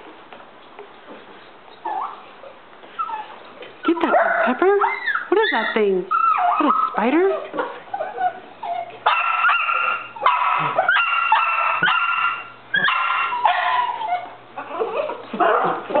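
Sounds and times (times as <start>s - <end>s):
small dog yapping: 3.0s - 16.0s.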